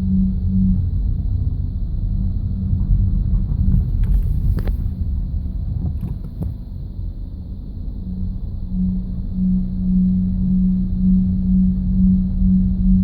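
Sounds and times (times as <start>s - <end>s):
low rumble: 0.0s - 13.0s
low-pitched groan from car: 0.0s - 13.0s.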